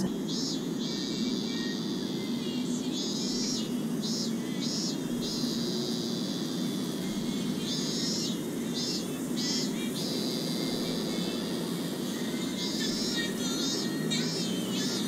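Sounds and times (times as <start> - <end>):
cicadas droning: 0.0 - 15.0
steady low hum: 0.0 - 15.0.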